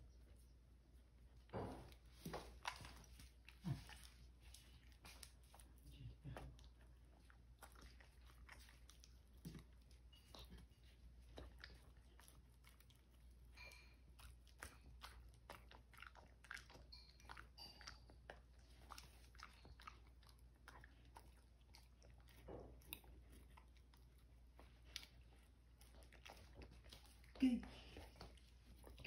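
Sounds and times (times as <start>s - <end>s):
dog chewing and lip smacking: 0.1s - 29.0s.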